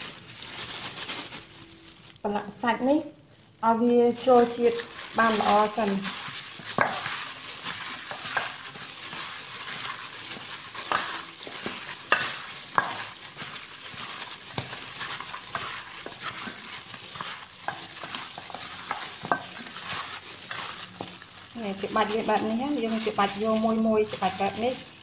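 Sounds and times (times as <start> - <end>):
wet squelching and rustling: 0.0 - 25.0.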